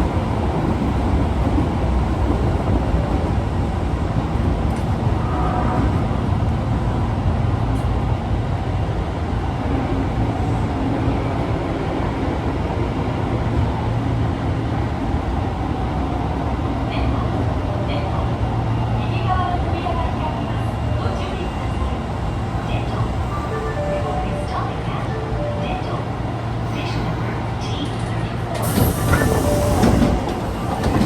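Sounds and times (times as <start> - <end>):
subway car rumbling: 0.0 - 31.0.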